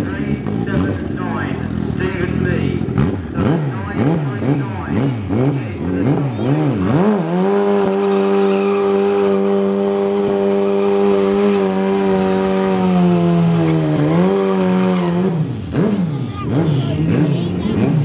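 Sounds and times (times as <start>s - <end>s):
motorcycle engine high revs: 0.0s - 18.0s.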